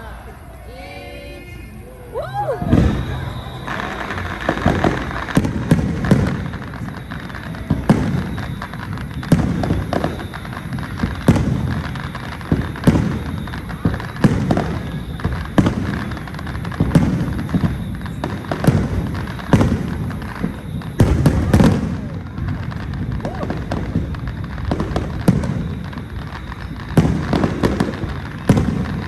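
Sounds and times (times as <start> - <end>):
fireworks booming: 1.8 - 29.0.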